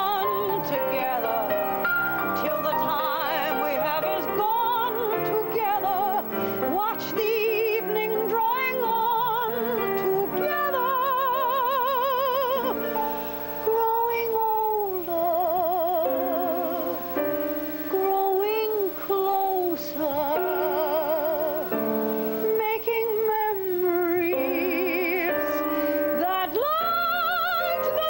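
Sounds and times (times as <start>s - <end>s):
woman singing a ballad: 0.0s - 1.6s, 2.2s - 17.0s, 17.9s - 21.8s, 22.4s - 28.0s
piano: 0.0s - 28.0s.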